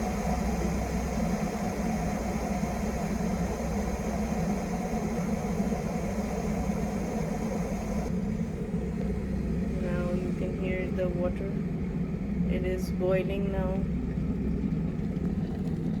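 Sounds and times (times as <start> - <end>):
electric kettle heating water: 0.0 - 16.0.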